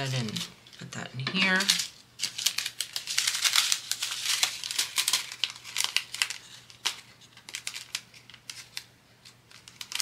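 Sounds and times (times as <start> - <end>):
plastic bags crinkling: 0.0 - 8.9, 9.5 - 10.0.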